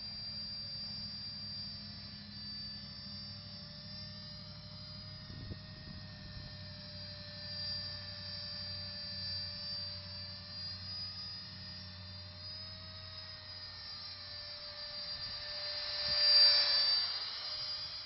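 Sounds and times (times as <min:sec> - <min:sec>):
drone motor whine: 0:00.0 - 0:18.0.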